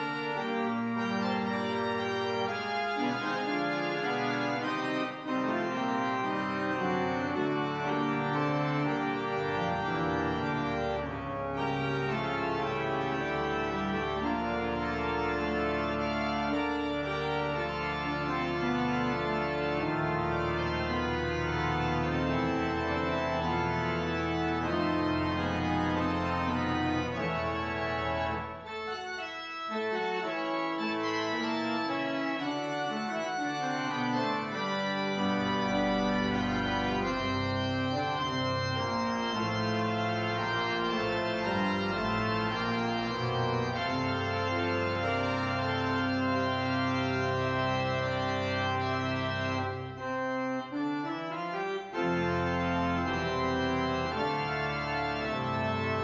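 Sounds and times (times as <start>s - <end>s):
church organ chords: 0.0s - 56.0s
deep organ pedal bass: 0.0s - 56.0s.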